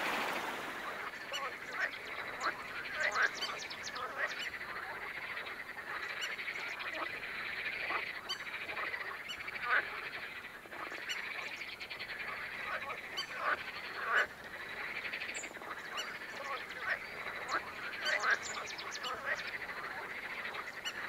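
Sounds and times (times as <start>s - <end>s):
chorus of frogs croaking: 0.0s - 21.0s.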